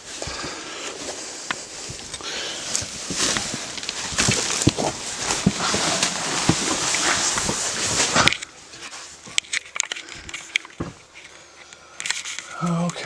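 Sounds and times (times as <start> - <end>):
footsteps crunching through debris: 0.0 - 11.2
light clicks and creaks: 1.4 - 13.0.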